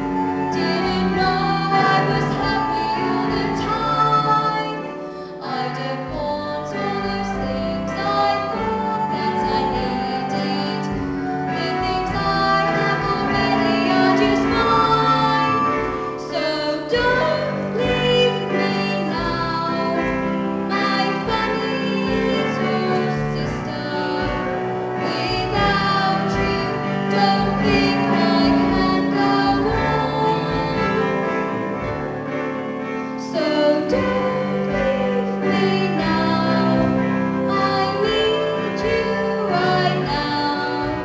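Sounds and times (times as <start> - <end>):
instrumental accompaniment: 0.0 - 41.0
women singing together: 0.0 - 41.0.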